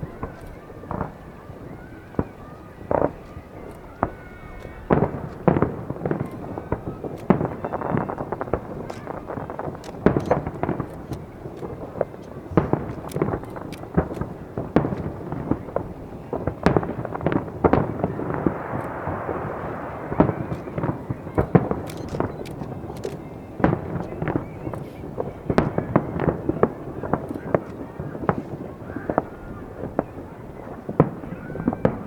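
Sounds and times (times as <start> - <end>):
fireworks booming: 0.0 - 32.0.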